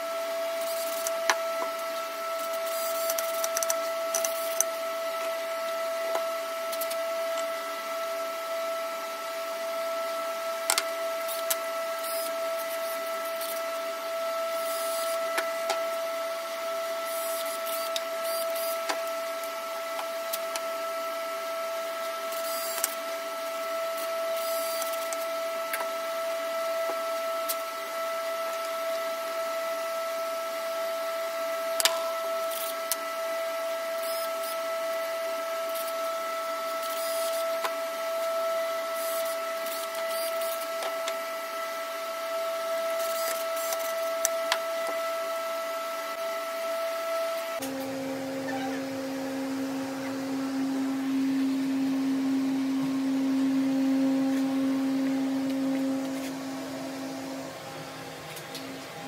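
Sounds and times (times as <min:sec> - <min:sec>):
machine whining: 0:00.0 - 0:59.0.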